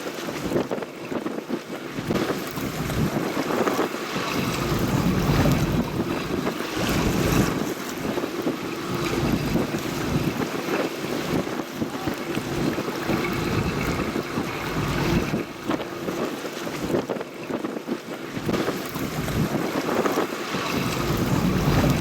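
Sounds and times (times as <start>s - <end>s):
waves on open water: 0.0s - 22.0s
wind buffeting microphone: 0.0s - 22.0s.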